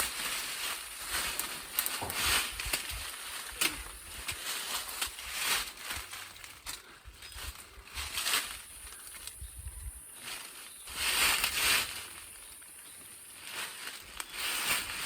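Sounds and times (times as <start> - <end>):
branches snapping: 0.0 - 9.4, 10.2 - 12.8, 13.4 - 15.0
leaves and branches rustling: 0.0 - 15.0.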